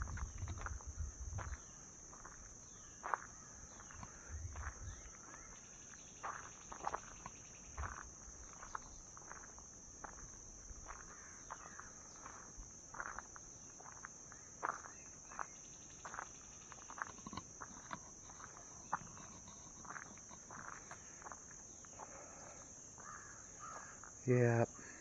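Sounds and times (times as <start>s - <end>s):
high-pitched insect drone: 0.0s - 25.0s
footsteps in grass and brush: 0.1s - 19.0s, 19.8s - 22.1s.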